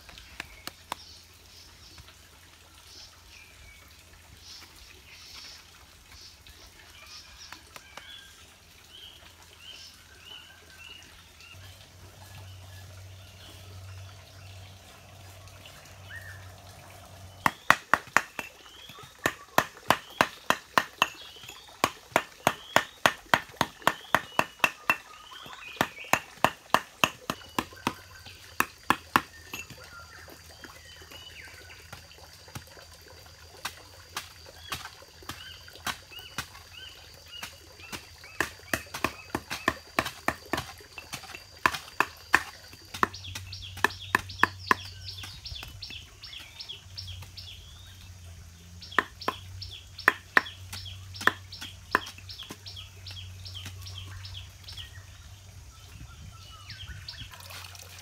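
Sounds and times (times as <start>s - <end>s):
birds chirping: 0.0s - 32.6s, 34.1s - 57.4s.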